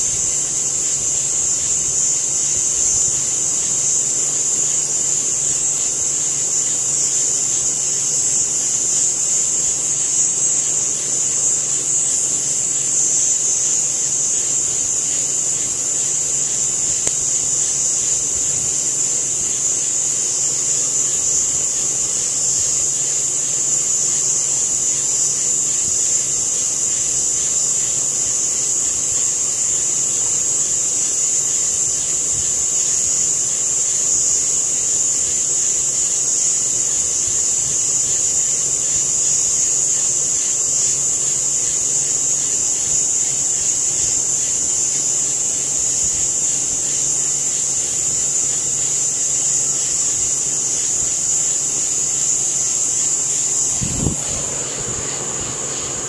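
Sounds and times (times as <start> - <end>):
night insects chorus: 0.0 - 56.0.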